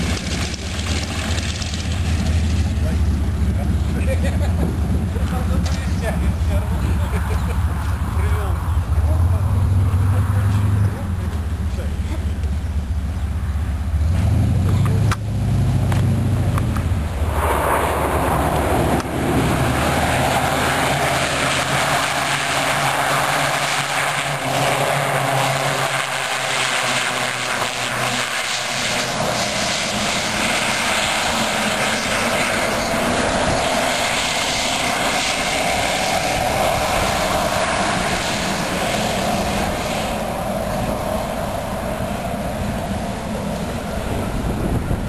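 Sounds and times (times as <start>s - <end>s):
piston aircraft engine taxiing: 0.0s - 45.0s
turboprop engine whining: 0.0s - 45.0s.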